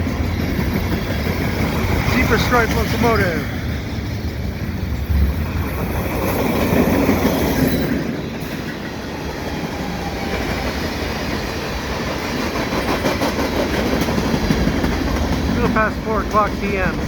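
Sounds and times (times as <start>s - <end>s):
clickety-clack over rail joints: 0.0s - 17.0s
rumble of rolling train wheels: 0.0s - 17.0s.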